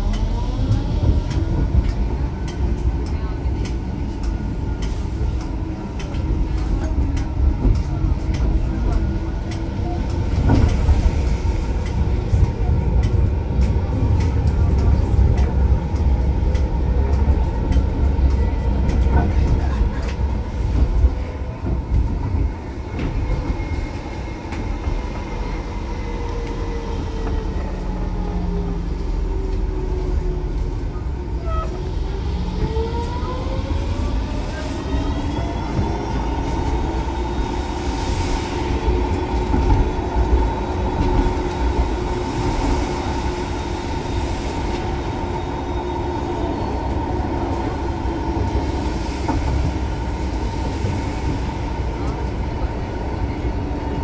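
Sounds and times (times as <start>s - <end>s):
tram wheels rumbling on rails: 0.0s - 54.0s.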